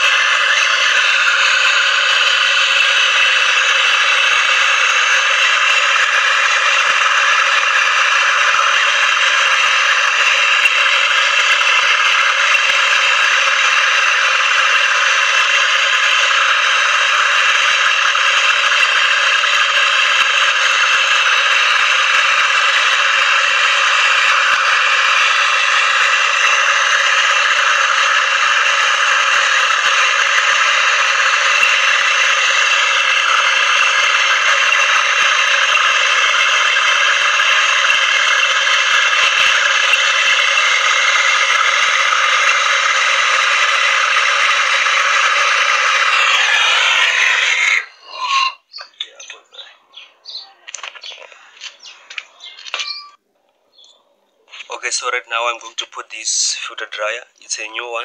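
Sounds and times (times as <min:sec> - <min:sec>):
gas torch hissing: 0:00.0 - 0:49.4.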